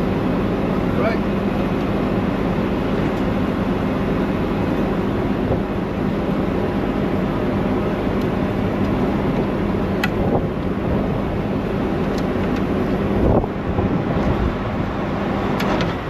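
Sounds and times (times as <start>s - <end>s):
engine idling drone: 0.0s - 16.0s.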